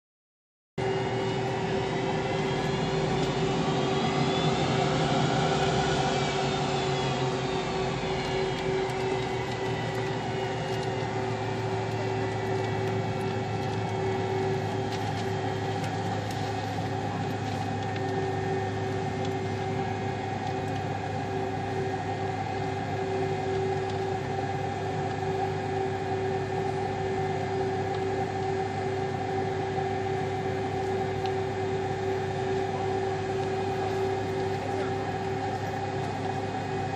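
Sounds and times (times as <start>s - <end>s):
engine whine: 0.8s - 36.9s
jet airliner engines humming: 0.8s - 36.9s.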